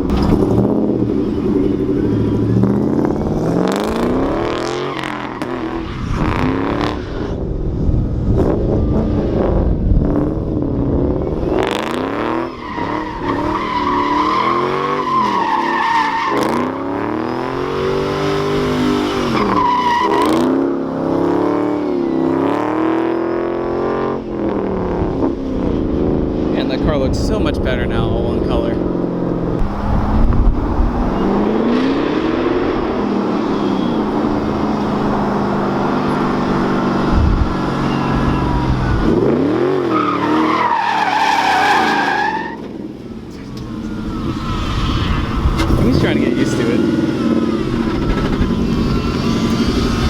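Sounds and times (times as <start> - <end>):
tires squealing: 0.0 - 7.5, 11.0 - 22.9, 24.2 - 50.0
car engine revving: 0.0 - 50.0.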